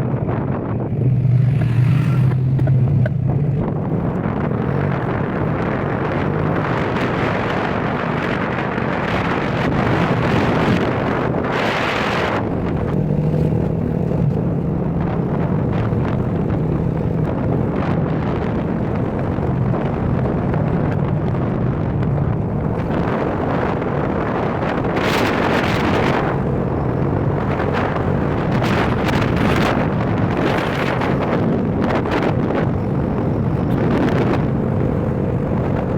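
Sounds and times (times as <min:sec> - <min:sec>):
road noise: 0:00.0 - 0:35.9
vehicle engine running: 0:00.0 - 0:35.9
wind buffeting microphone: 0:00.0 - 0:35.9.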